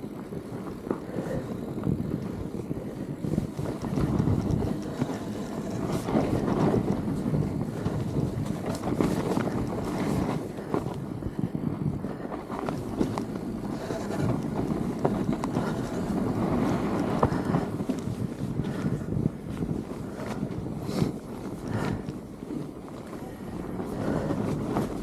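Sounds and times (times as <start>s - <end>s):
bike clicks and rattles: 0.0s - 25.0s
wind buffeting microphone: 0.0s - 25.0s.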